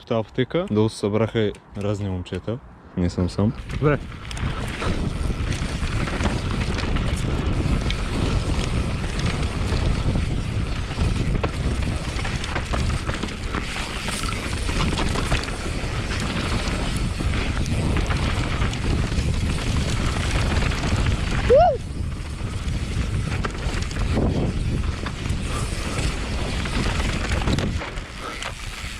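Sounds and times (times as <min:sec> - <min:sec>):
wind rush over microphone: 0:03.2 - 0:28.9
bike tyres on dirt trail: 0:03.5 - 0:28.9
bike knocks and rattles: 0:03.6 - 0:28.9.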